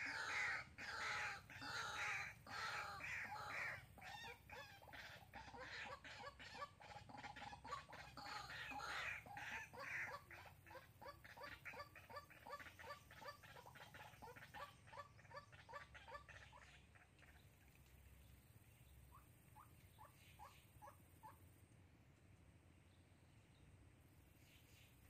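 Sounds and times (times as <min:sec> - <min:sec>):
waterhen calling: 0:00.0 - 0:18.1, 0:19.0 - 0:21.4.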